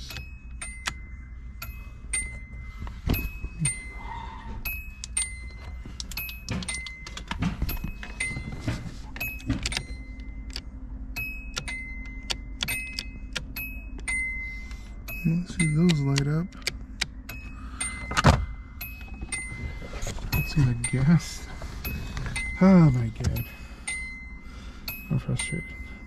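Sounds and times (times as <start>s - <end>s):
car warning chime pinging: 0.0s - 26.0s.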